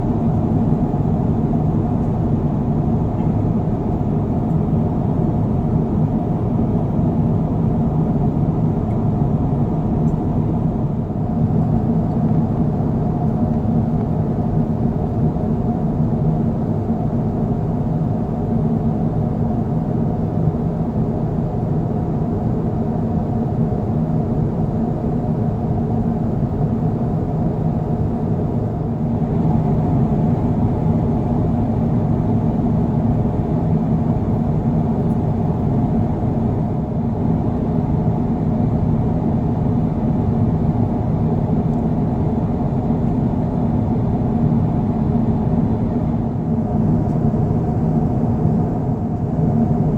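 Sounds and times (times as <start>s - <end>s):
airplane cabin drone: 0.0s - 49.9s.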